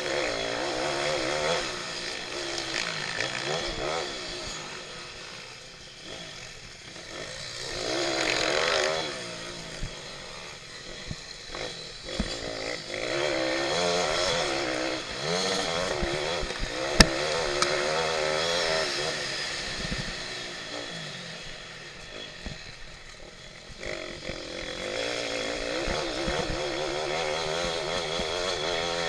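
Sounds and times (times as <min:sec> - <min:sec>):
pit bike engine revving: 0:00.0 - 0:29.0.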